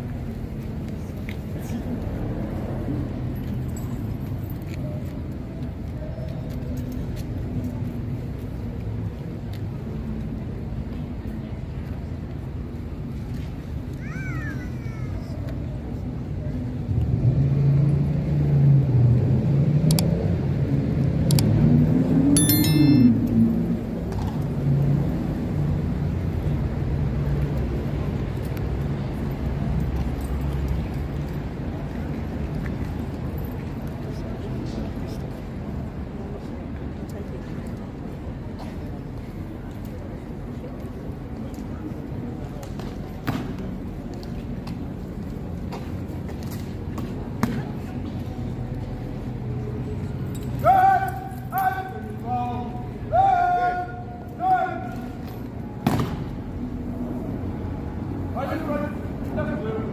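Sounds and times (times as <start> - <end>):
faint engine hum: 0.0 - 59.9
road traffic rumble: 0.0 - 59.9.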